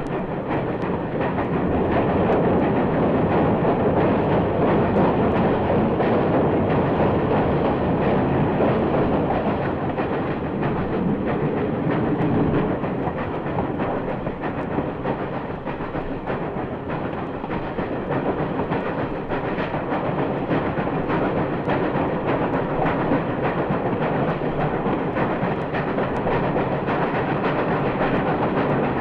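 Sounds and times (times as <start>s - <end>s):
steam locomotive running: 0.0s - 29.0s.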